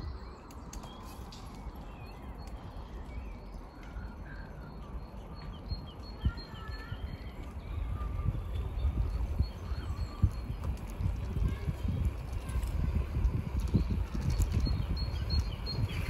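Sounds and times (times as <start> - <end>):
songbirds chirping: 0.0 - 16.0
wind rumble: 0.0 - 16.0.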